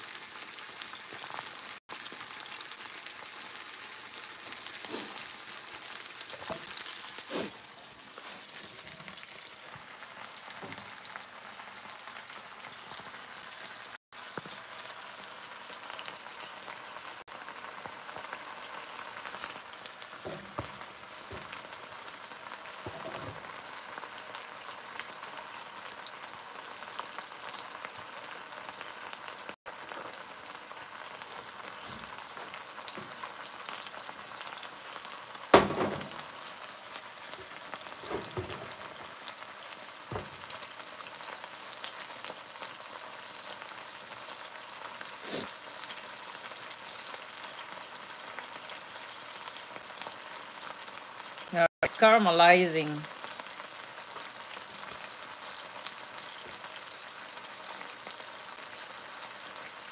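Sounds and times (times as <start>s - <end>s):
meat sizzling in a pan: 0.0s - 59.9s.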